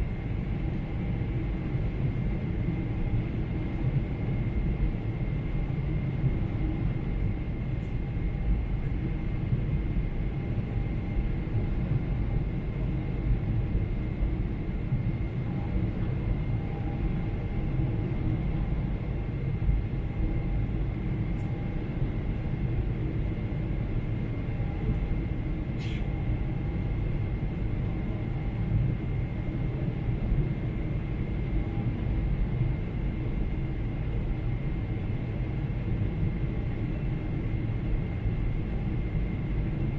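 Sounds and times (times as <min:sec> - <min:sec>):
airliner cabin engine rumble: 0:00.0 - 0:39.9
faint steady whine: 0:00.0 - 0:39.9.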